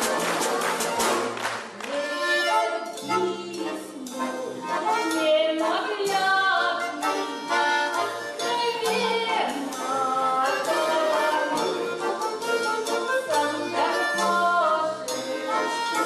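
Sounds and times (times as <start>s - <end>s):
instrumental accompaniment: 0.0s - 16.0s
person singing: 2.0s - 16.0s.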